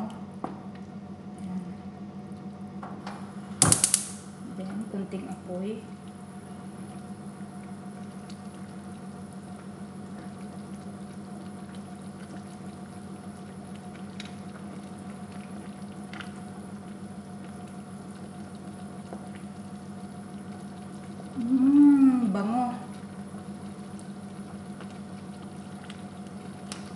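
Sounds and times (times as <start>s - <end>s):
sauce bubbling in a pan: 5.0s - 26.9s.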